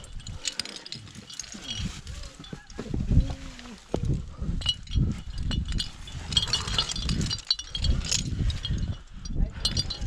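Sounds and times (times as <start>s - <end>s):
climbing hardware clinking: 0.0s - 10.0s.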